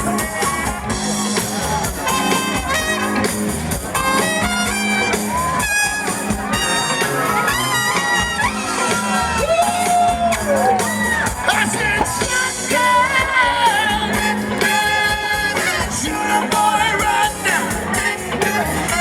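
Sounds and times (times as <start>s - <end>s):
horn section riffs: 0.0s - 19.0s
soul band playing: 0.0s - 19.0s.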